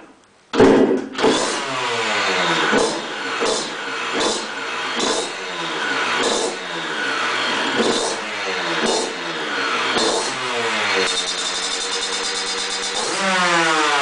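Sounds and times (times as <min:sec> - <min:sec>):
two-stroke engine revving: 0:01.2 - 0:14.0.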